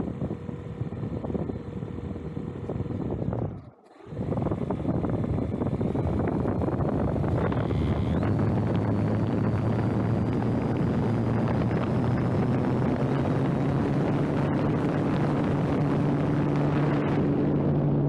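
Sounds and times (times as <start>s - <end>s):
electric motor and propeller hum: 0.0s - 18.0s.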